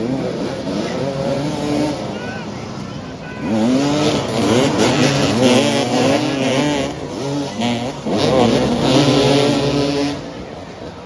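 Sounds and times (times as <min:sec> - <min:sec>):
motorcycles revving: 0:00.0 - 0:11.0.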